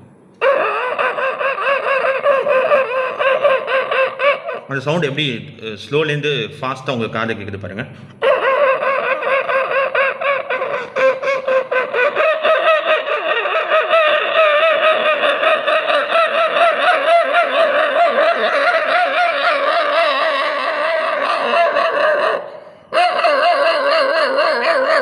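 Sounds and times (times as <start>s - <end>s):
person imitating a dog: 0.4s - 5.3s, 8.2s - 25.0s.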